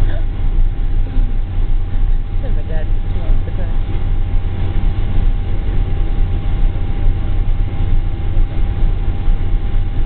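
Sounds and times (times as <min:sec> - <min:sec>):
airplane cabin drone: 0:00.0 - 0:10.0
thin steady whine: 0:00.0 - 0:10.0.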